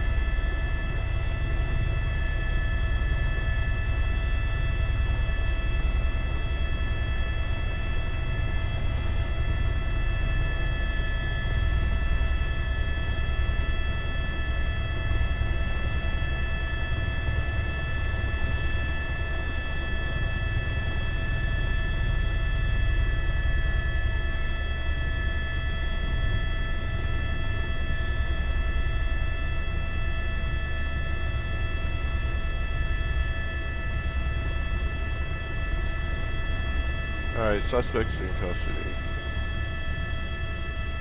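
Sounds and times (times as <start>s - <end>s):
helicopter rotor rumble: 0.0s - 41.0s
high turbine whine: 0.0s - 41.0s.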